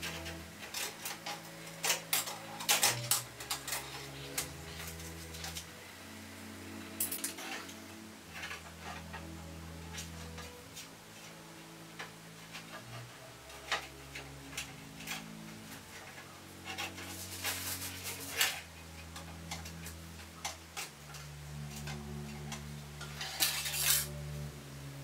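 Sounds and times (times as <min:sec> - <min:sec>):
wire hanger scraping metal: 0:00.0 - 0:05.9, 0:06.8 - 0:24.5.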